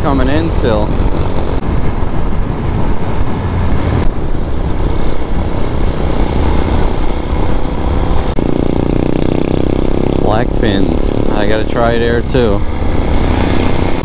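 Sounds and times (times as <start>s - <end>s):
motorcycle engine hum: 0.0s - 14.0s
wind rumble on microphone: 0.0s - 14.0s.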